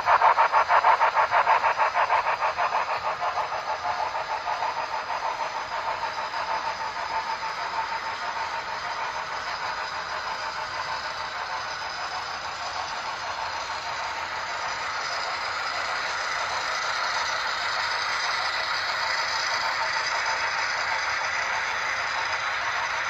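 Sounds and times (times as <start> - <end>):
model train cars rattling on track: 0.0 - 23.0
rhythmic clicking of wheels: 0.0 - 23.0.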